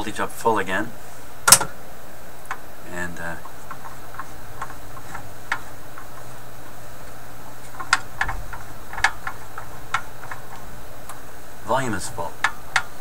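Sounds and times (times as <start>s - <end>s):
radio static hiss and hum: 0.2s - 13.0s
radio crackles and clicks: 2.4s - 13.0s.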